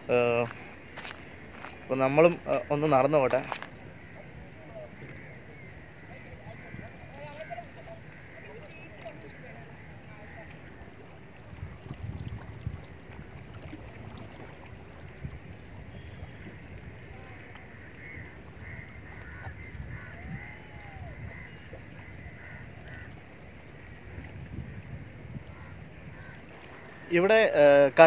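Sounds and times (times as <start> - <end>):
wind buffeting microphone: 3.3 - 28.0.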